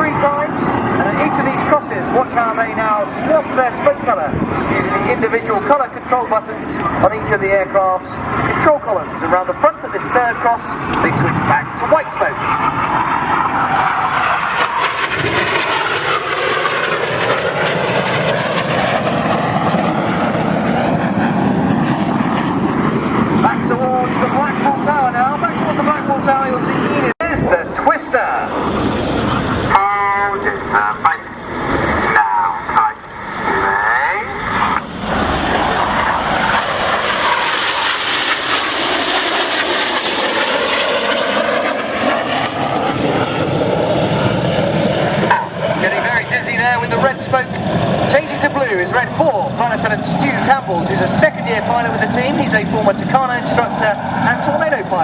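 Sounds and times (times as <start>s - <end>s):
jet aircraft roaring past: 0.0s - 55.0s.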